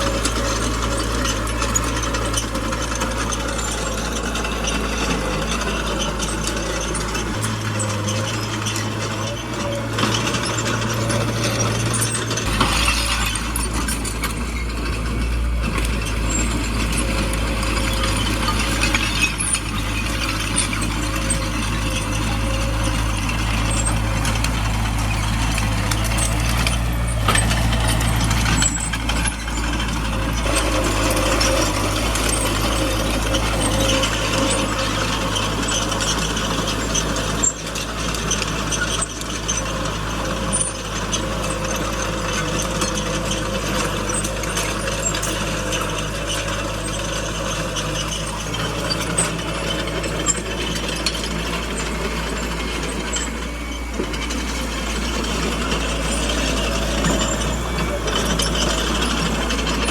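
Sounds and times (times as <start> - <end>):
bulldozer diesel engine running: 0.0 - 59.9
metallic clatter of steel tracks: 0.0 - 59.9.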